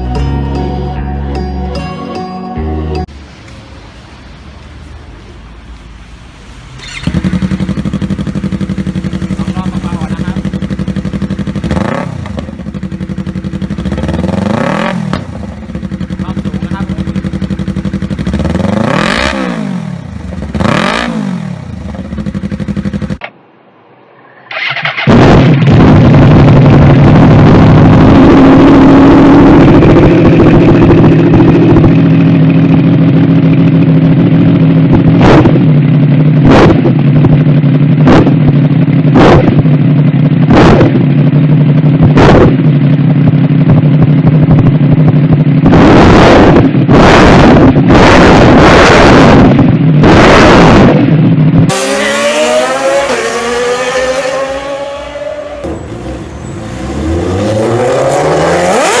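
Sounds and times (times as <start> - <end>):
motorcycle engine running loud: 6.8 - 23.2, 25.1 - 59.0
motorcycle engine revving: 6.8 - 23.4, 24.5 - 59.0.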